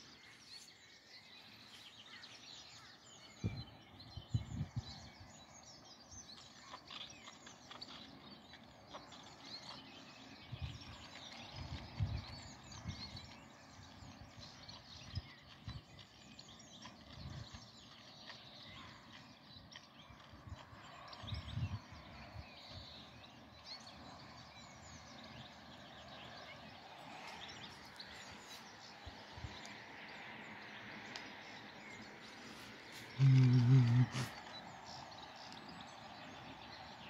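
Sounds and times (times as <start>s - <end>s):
songbirds chirping: 0.0s - 37.0s
steady outdoor hum: 0.0s - 37.0s.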